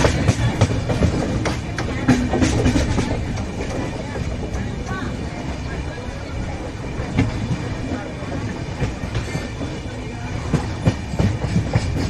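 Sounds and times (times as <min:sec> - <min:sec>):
train coaches rumbling by: 0:00.0 - 0:12.0
wheels clacking over rail joints: 0:00.0 - 0:12.0.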